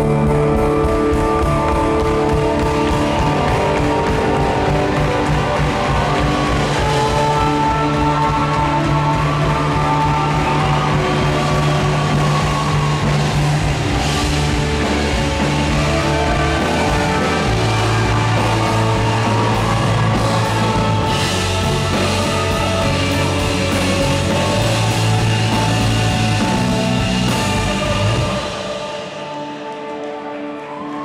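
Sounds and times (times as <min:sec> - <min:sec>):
bass guitar: 0:00.0 - 0:31.0
distorted electric guitars: 0:00.0 - 0:31.0
drum kit: 0:00.0 - 0:31.0.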